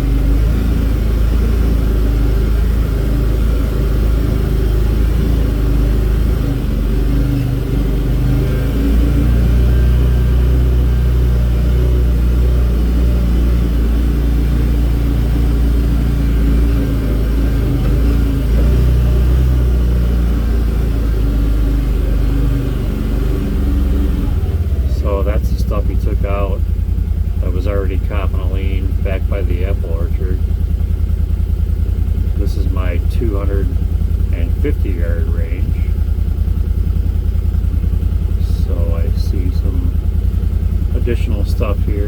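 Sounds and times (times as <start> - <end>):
vehicle engine droning while driving: 0.0 - 42.0.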